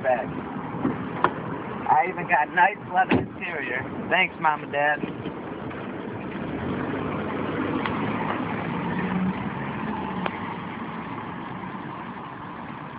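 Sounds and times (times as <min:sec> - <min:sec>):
low engine hum: 0:00.2 - 0:12.9.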